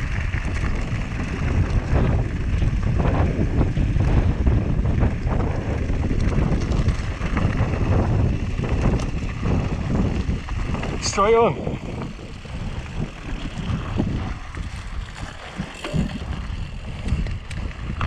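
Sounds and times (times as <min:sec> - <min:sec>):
bike rattling: 0:00.0 - 0:18.0
bike tyres crunching over gravel: 0:00.0 - 0:18.0
wind buffeting microphone: 0:00.0 - 0:18.0.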